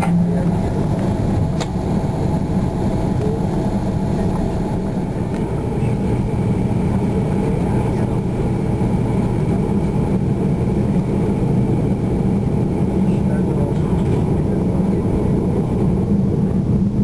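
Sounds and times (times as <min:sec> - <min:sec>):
airplane cabin engine rumble: 0:00.0 - 0:17.0
faint steady whine: 0:00.0 - 0:17.0.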